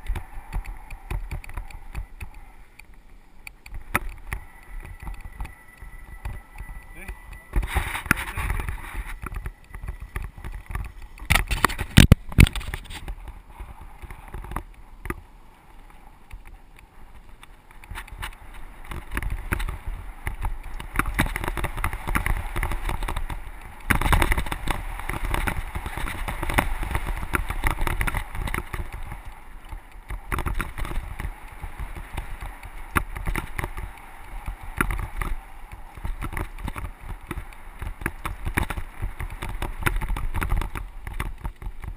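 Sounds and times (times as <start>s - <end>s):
bike rattling over bumps: 0.0s - 41.9s
bike tyres crunching over dirt: 0.0s - 41.9s.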